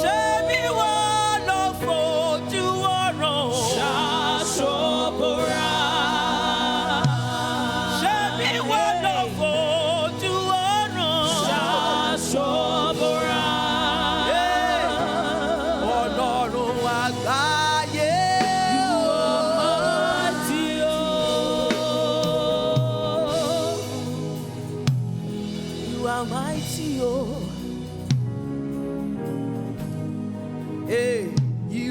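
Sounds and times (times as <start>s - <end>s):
voices singing gospel song: 0.0s - 29.0s
musical accompaniment: 0.0s - 31.9s.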